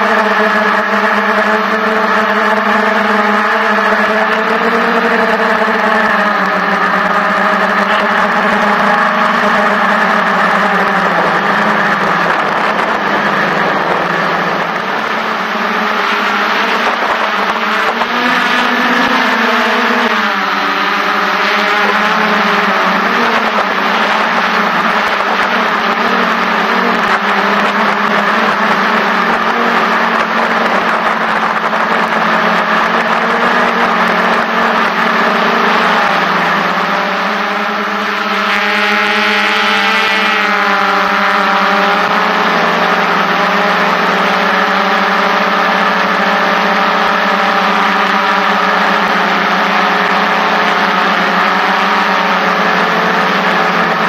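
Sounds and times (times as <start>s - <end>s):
drone motors whirring: 0.0s - 54.0s.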